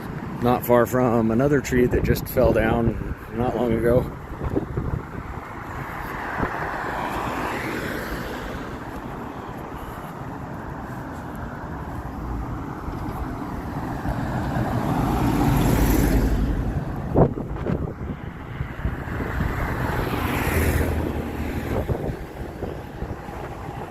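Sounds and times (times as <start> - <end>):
road traffic: 0.0 - 23.9
gusty wind on microphone: 1.7 - 23.9.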